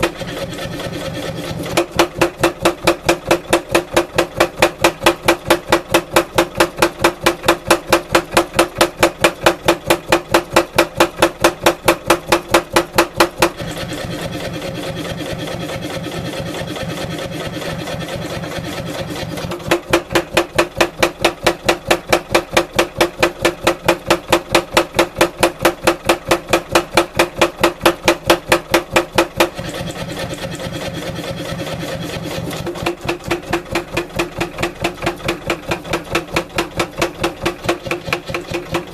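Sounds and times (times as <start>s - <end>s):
machine running steadily: 0.0s - 38.9s.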